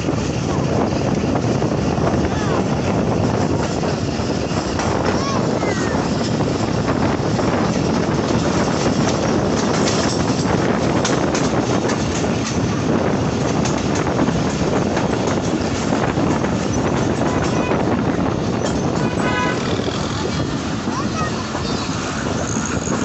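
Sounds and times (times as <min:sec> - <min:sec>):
train wheels rumbling on rails: 0:00.0 - 0:23.0
wind blowing on microphone: 0:00.0 - 0:23.0.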